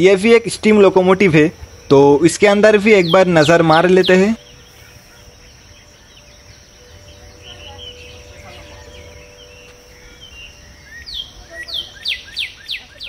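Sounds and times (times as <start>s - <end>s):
birds chirping: 0.0s - 13.0s
faint steady hum: 0.0s - 13.0s.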